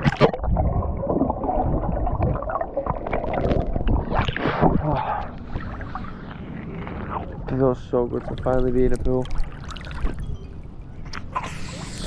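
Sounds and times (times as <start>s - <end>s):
pool water sloshing and splashing: 0.0s - 11.9s.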